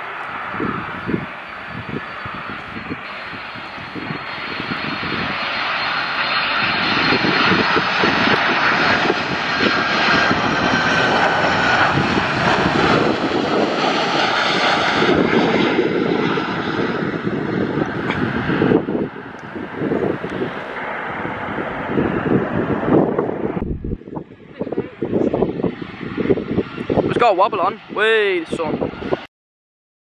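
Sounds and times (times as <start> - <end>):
high engine whine: 0.0 - 29.2
jet engines flying past: 0.0 - 29.3.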